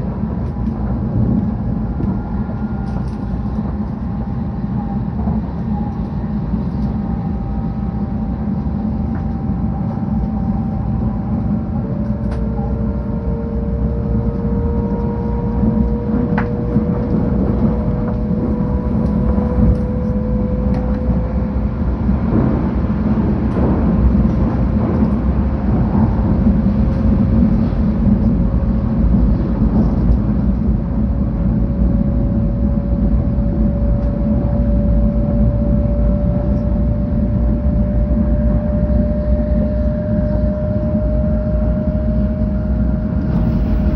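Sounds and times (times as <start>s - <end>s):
train interior rumble: 0.0s - 43.9s.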